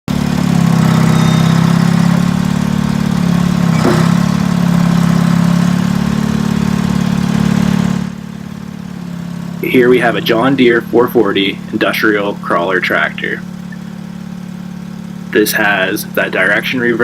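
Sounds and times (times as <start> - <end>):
diesel tractor engine running: 0.1 - 17.0.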